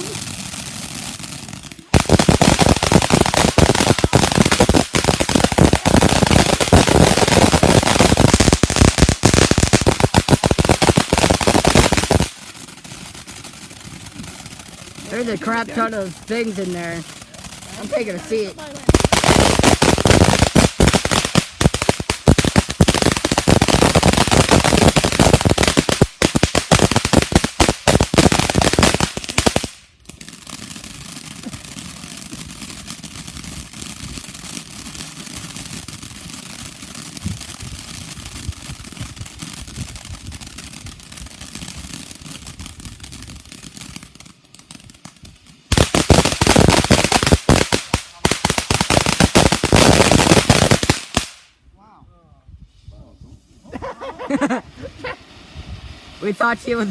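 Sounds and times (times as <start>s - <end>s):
firework hissing: 0.0s - 51.5s, 52.6s - 56.9s
firework bangs and crackles: 0.0s - 51.6s, 52.6s - 56.9s.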